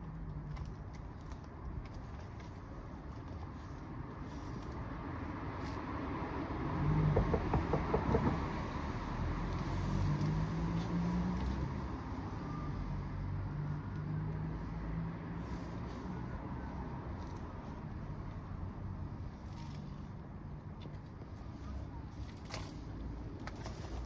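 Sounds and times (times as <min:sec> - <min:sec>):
motor vehicle engine rumble: 0:00.0 - 0:24.0.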